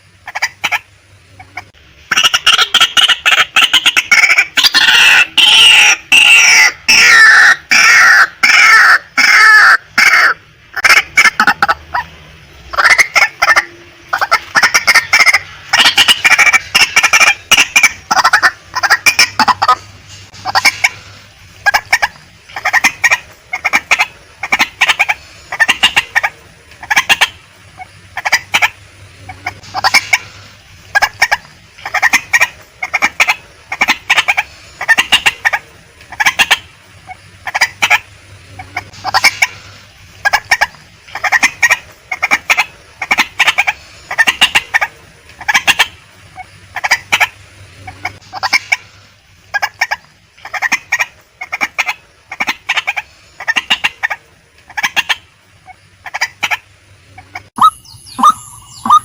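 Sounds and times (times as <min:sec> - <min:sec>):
waterhen calling harsh clucks: 0:00.0 - 0:59.0.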